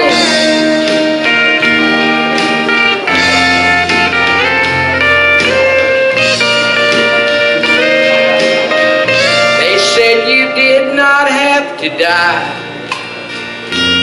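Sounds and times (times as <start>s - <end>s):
sliding lead notes: 0.0s - 14.0s
steady bass line: 0.0s - 14.0s.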